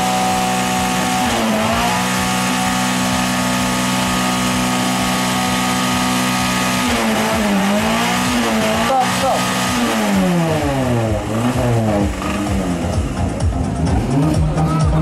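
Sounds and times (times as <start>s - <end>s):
car engine revving with loud exhaust: 0.0s - 15.0s.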